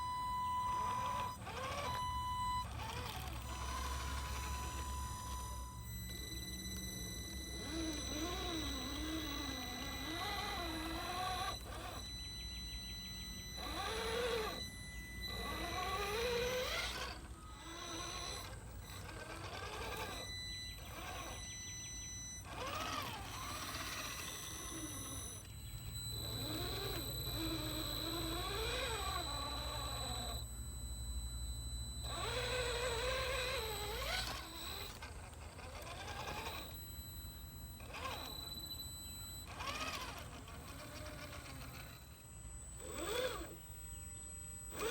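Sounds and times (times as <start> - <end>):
electric motor whining: 0.0 - 44.9
steady high-pitched electronic whine: 0.0 - 44.9.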